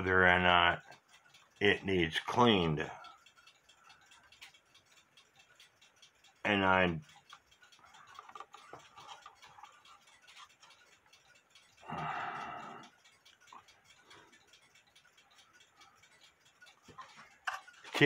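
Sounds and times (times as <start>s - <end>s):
clock ticking faintly: 0.0s - 18.0s.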